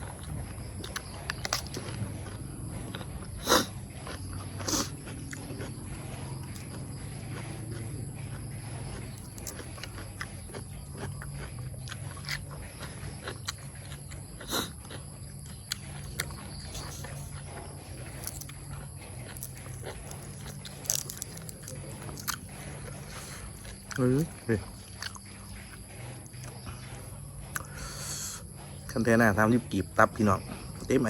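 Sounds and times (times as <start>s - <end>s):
person chewing and eating: 0.0s - 31.0s.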